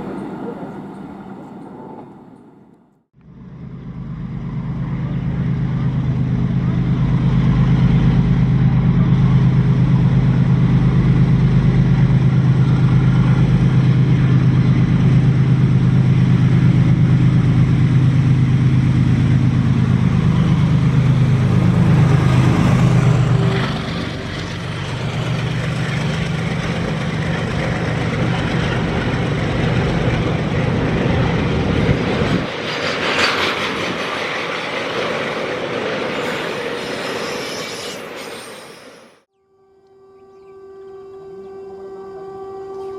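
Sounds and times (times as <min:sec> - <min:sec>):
train passing: 0:00.0 - 0:39.3
train wheel and running noise: 0:00.0 - 0:39.3.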